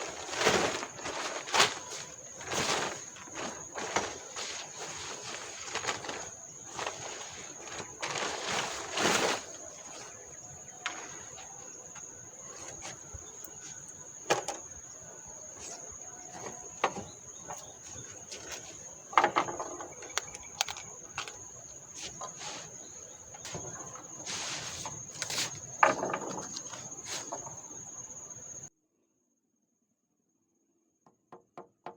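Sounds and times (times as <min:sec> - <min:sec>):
camping gear clicks and rustles: 0:00.0 - 0:28.7
insect buzzing: 0:00.0 - 0:28.7.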